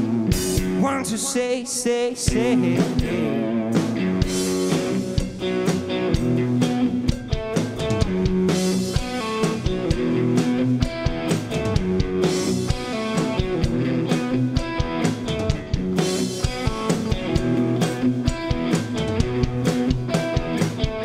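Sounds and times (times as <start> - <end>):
steady drum beat: 0.0 - 1.2, 2.2 - 21.0
electric guitar chords: 0.0 - 21.0.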